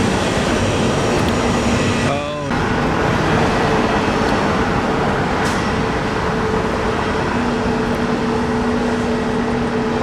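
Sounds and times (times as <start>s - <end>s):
jet airliner engine droning: 0.0s - 10.0s
low engine tone: 0.0s - 10.0s.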